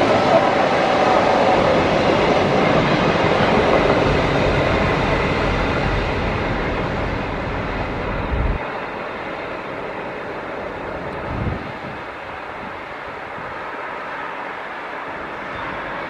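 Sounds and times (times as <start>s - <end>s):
locomotive engine and wheels rumbling: 0.0s - 16.0s.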